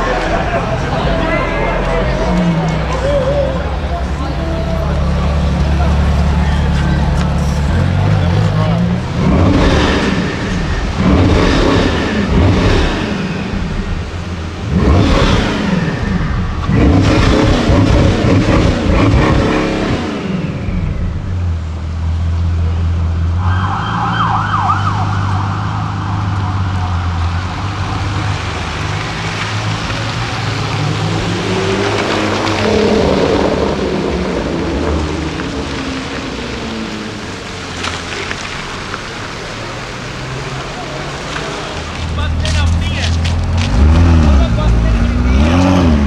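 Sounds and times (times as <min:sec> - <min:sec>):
car engines revving: 0:00.0 - 0:46.0.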